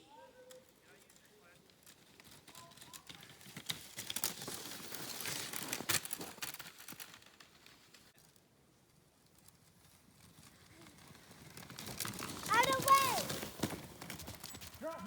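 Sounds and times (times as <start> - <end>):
crunching and scraping in snow: 0.9 - 8.4, 9.0 - 15.0.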